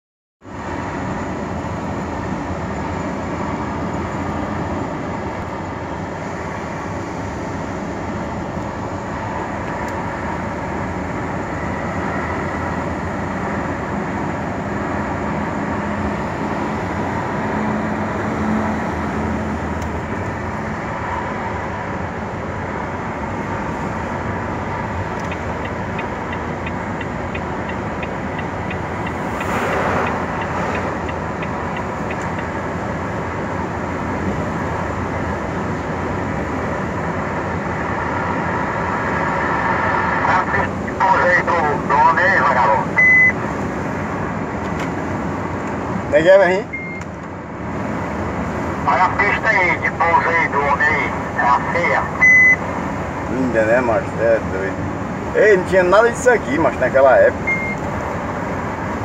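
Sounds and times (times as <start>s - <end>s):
truck engine and road drone: 0.4s - 59.0s.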